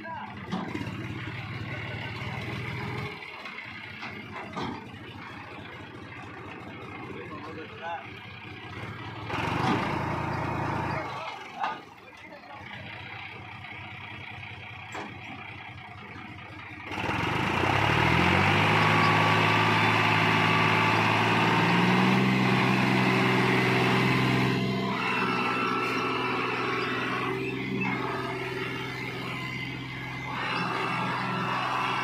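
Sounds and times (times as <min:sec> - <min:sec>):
tractor diesel engine pulling: 0:00.0 - 0:32.0.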